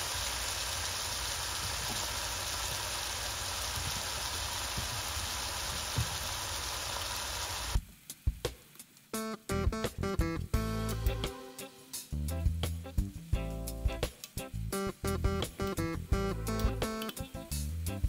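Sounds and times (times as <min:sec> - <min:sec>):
vegetables sizzling in a skillet: 0:00.0 - 0:09.2, 0:10.6 - 0:14.7, 0:15.3 - 0:18.0.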